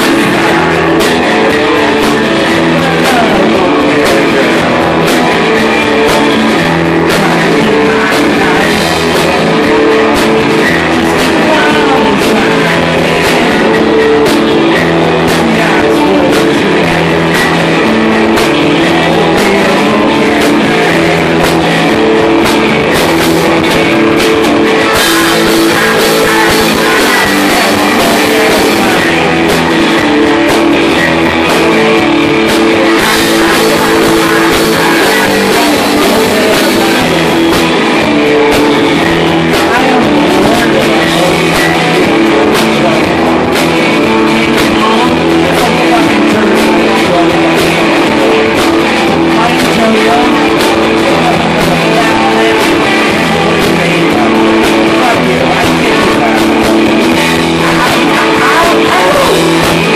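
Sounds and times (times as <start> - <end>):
drums: 0.0 - 59.9
electric guitars: 0.0 - 59.9
man singing into microphone: 0.0 - 59.9.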